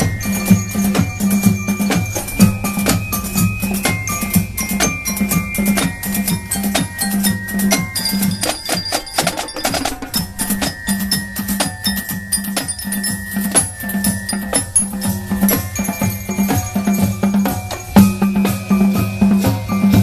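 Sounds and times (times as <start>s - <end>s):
glockenspiel: 0.0s - 20.0s
marching band drums: 0.0s - 20.0s.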